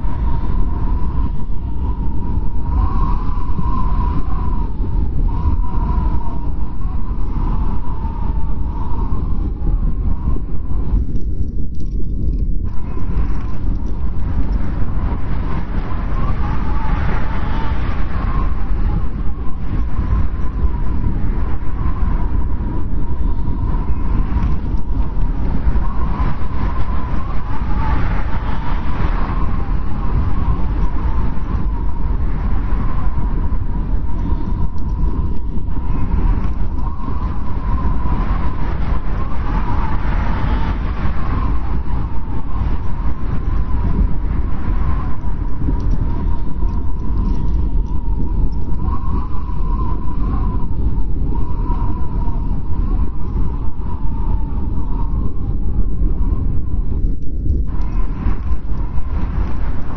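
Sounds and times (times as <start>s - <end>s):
howling blizzard wind: 0.0s - 59.9s.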